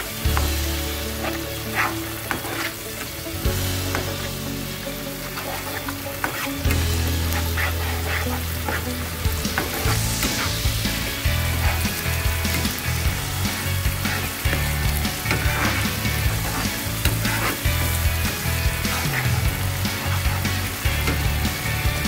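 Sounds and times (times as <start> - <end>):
sauce sizzling and bubbling in pan: 0.0 - 22.0
spatula scraping pan: 0.0 - 22.0.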